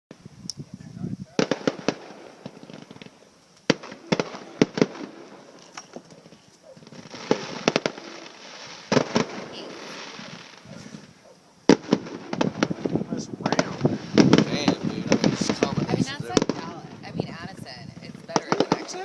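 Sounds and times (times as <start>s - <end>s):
fireworks crackling: 0.2s - 19.0s
fireworks bangs: 0.7s - 19.0s.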